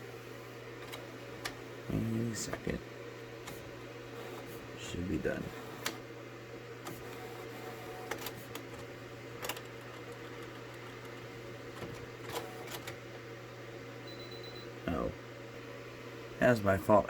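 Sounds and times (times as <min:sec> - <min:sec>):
printer humming: 0:00.0 - 0:16.3.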